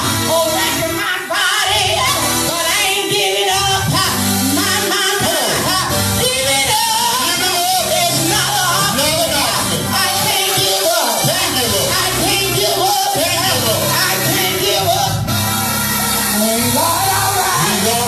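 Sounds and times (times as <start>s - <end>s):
church singing: 0.0s - 18.0s
instrumental accompaniment: 0.0s - 18.0s
low bass notes: 3.5s - 18.0s.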